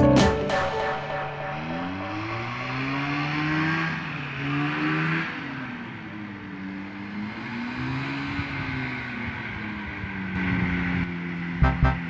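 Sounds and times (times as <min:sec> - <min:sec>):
small aircraft engine revving: 0:01.3 - 0:12.0.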